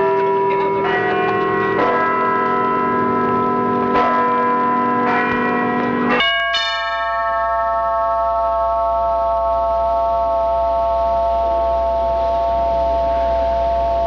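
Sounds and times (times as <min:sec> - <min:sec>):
church bells ringing: 0:00.0 - 0:14.0
high-pitched bell ringing: 0:00.0 - 0:14.0.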